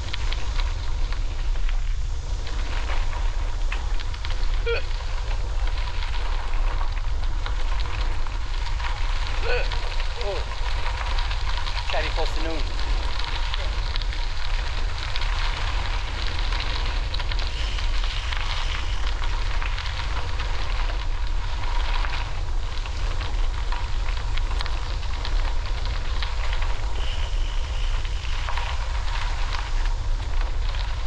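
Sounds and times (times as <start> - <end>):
bicycle tyres rolling on trail: 0.0 - 31.0
small ticks: 0.0 - 31.0
wind rumbling on microphone: 0.0 - 31.0.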